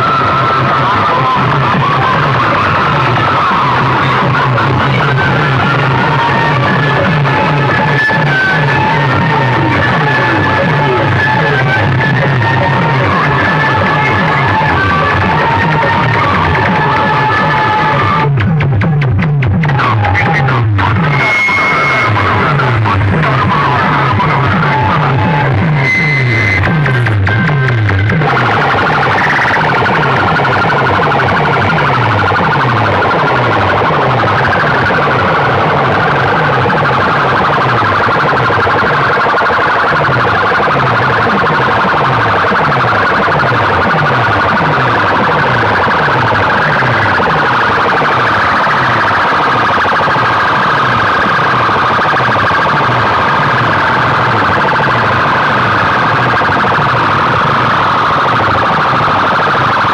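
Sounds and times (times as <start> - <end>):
noisy siren effect: 0.0 - 59.9.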